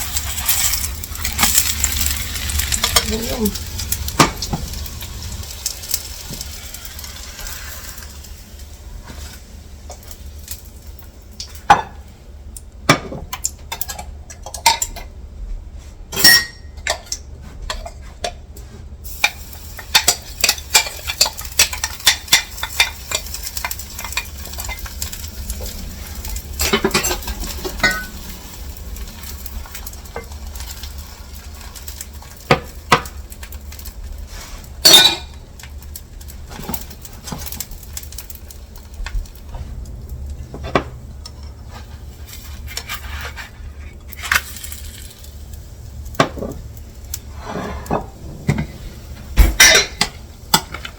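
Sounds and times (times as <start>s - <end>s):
pancakes sizzling: 0.0s - 12.2s, 19.0s - 50.9s.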